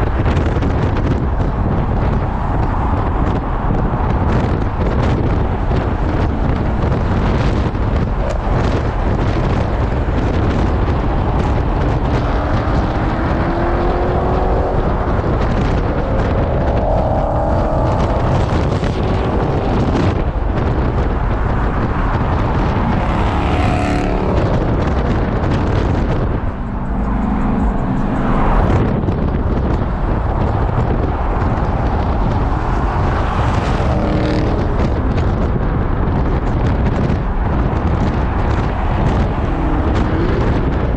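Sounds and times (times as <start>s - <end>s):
muscle car engines revving: 0.0s - 40.9s.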